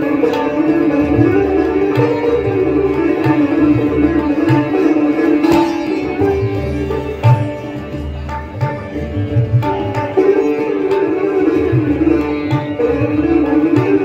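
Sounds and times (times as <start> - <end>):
sitar melody: 0.0 - 14.0
tabla bass strokes: 1.0 - 14.0.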